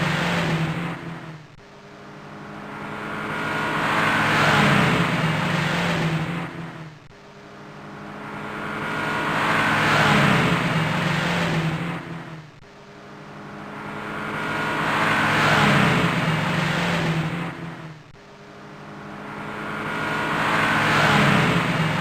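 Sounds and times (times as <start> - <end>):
car engine revving: 0.0 - 1.6, 2.2 - 7.1, 7.8 - 12.6, 13.3 - 18.2, 18.8 - 22.0.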